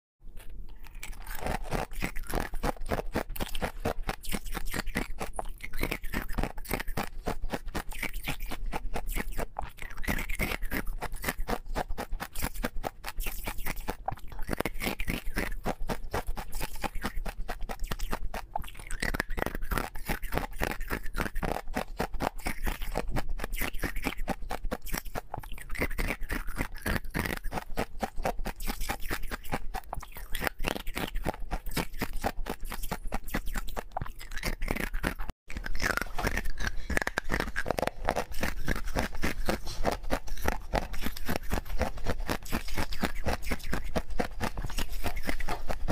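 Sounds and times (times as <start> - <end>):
crunching and chewing ice: 0.3 - 45.9.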